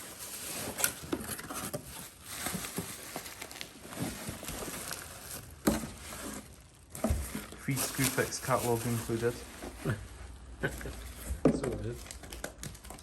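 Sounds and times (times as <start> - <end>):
cardboard box rustling: 0.0 - 13.0.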